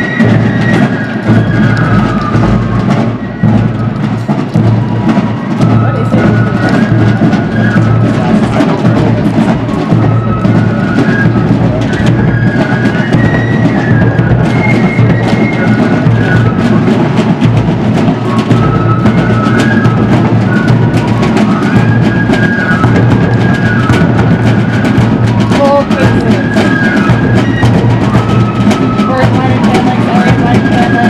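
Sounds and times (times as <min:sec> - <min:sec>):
high melody line: 0:00.0 - 0:31.0
snare drums: 0:00.0 - 0:31.0.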